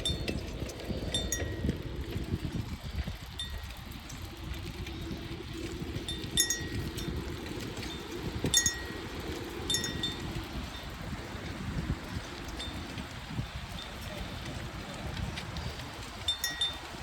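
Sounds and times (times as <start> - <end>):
wind and rolling tyres: 0.0 - 17.0.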